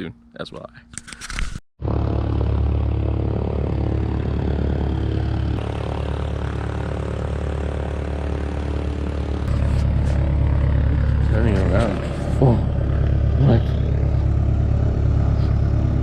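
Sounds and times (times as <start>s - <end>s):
propeller aircraft engine humming: 1.8s - 16.0s.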